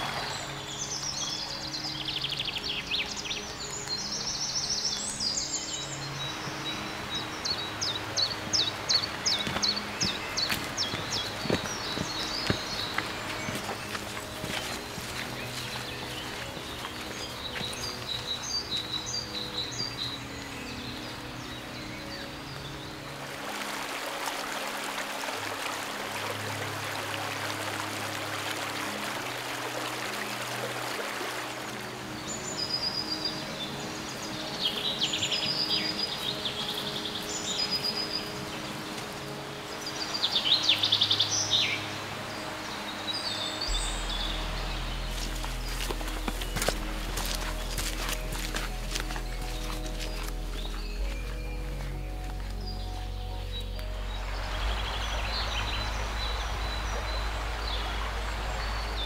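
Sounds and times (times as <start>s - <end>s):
birds chirping and singing: 0.0s - 23.8s, 31.4s - 59.0s
rushing stream water: 0.0s - 59.0s.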